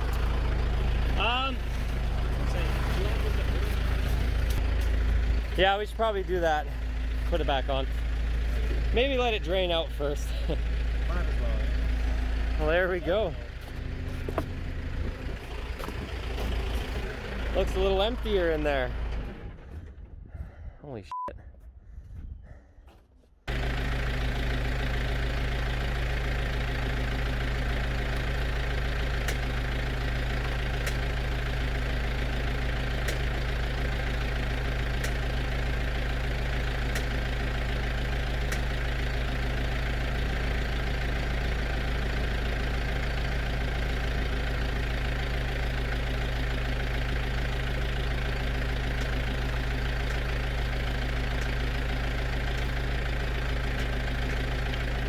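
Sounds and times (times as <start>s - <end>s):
engine idling: 0.0s - 20.6s, 23.5s - 55.0s.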